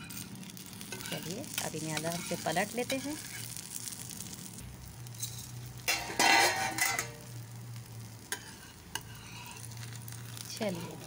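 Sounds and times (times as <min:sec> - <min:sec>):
metal spatula scraping iron griddle: 0:00.0 - 0:04.0, 0:05.1 - 0:07.3, 0:08.2 - 0:11.0
faint oil sizzle: 0:00.0 - 0:11.0.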